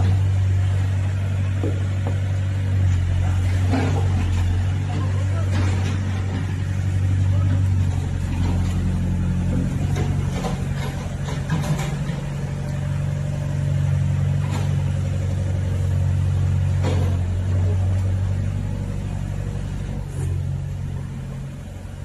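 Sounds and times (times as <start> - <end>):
motor engine humming: 0.0 - 22.0.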